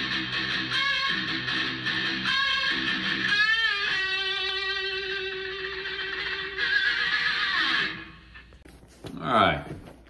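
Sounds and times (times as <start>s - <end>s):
electric guitar riff: 0.0s - 8.5s.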